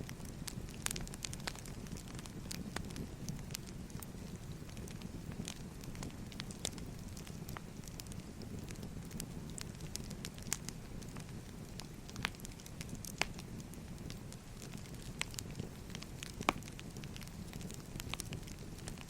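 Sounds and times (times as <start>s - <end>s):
low rumble of burning logs: 0.0s - 19.0s
wood fire crackling: 0.0s - 19.0s.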